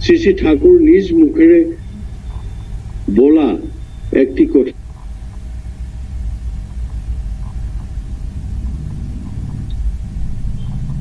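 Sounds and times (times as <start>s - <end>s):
faint steady hum: 0.0s - 11.0s
low fluttering rumble: 0.0s - 11.0s.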